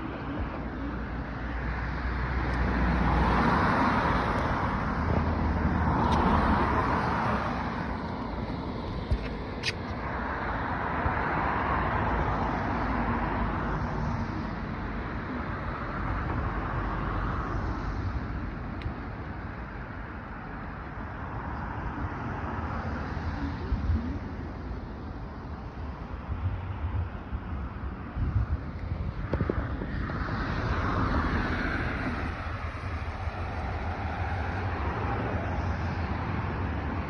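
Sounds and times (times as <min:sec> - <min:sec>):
outdoor background rush: 0:00.0 - 0:37.0.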